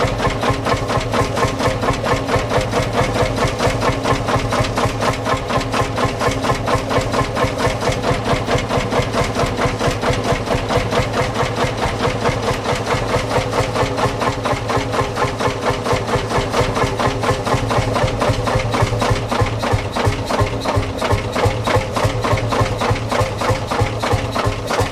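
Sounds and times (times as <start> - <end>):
tractor engine idling: 0.0 - 24.9.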